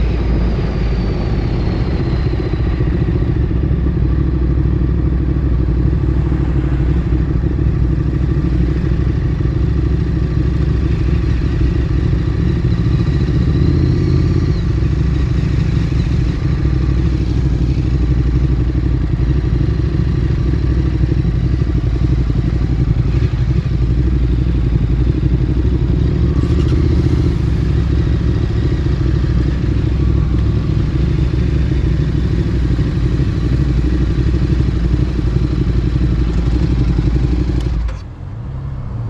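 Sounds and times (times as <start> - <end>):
motorcycle engine running steadily: 0.0 - 38.2
lower engine sound: 0.0 - 39.0.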